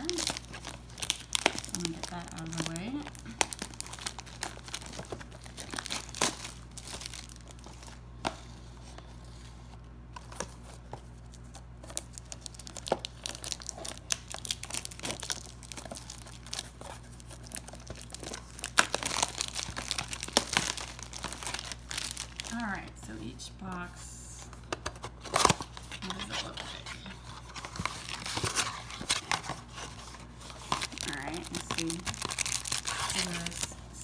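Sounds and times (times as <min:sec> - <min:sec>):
plastic shrink wrap crackling: 0:00.0 - 0:08.0, 0:10.4 - 0:22.9, 0:25.2 - 0:34.0.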